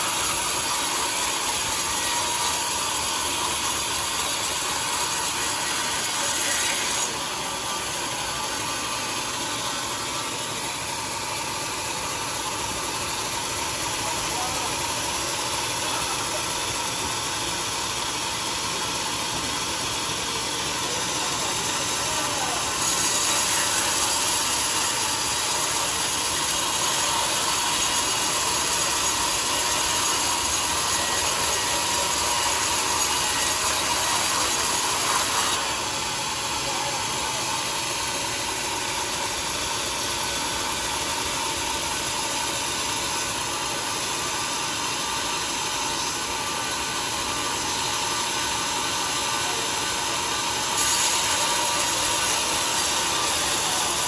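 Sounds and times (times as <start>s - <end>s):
sawmill saw cutting wood: 0.0s - 54.0s.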